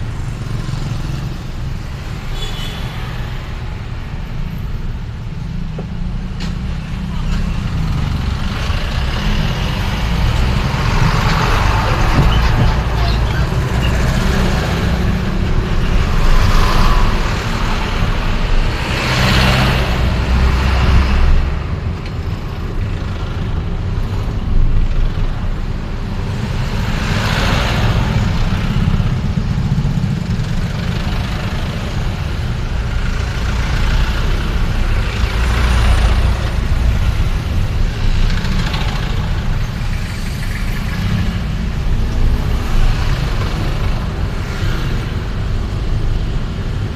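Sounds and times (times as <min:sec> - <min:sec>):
engine and road rumble: 0:00.0 - 0:46.9
vehicles passing: 0:00.0 - 0:46.9.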